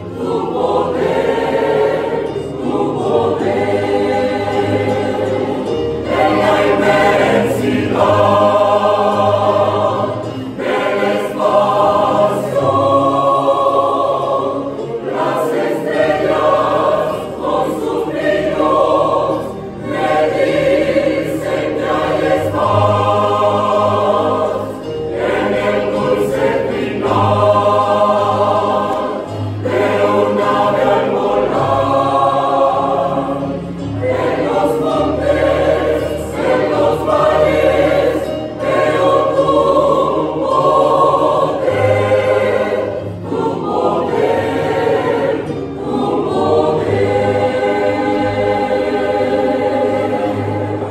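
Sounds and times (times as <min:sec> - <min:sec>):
mixed choir singing a hymn: 0:00.0 - 0:50.9.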